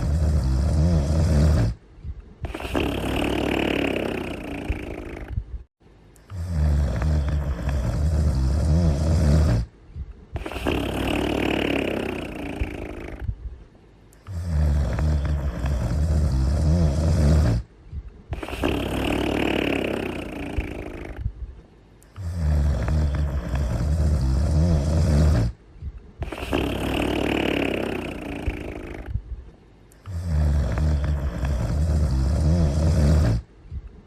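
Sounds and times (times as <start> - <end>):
cartoon character snoring: 0.0 - 1.8, 2.4 - 5.4, 6.3 - 9.7, 10.4 - 13.3, 14.2 - 17.7, 18.3 - 21.3, 22.1 - 25.6, 26.2 - 29.2, 30.0 - 33.5.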